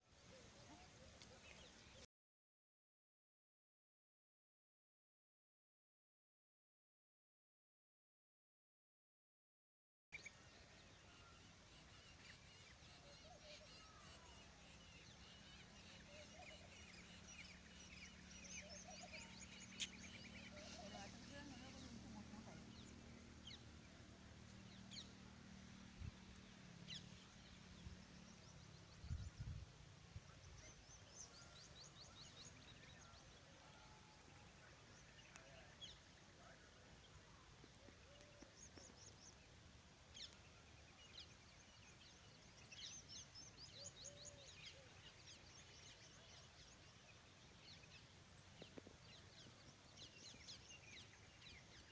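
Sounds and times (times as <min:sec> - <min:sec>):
small birds chirping: 0:10.2 - 0:51.9.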